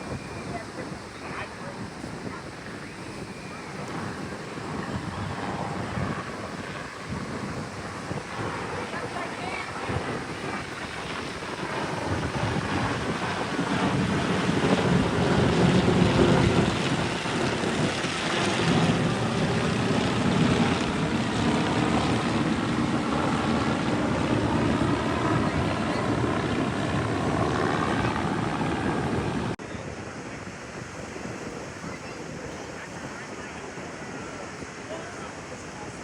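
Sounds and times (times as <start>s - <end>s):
propeller airplane flying past: 0.0s - 29.6s
wind buffeting microphone: 0.0s - 36.0s.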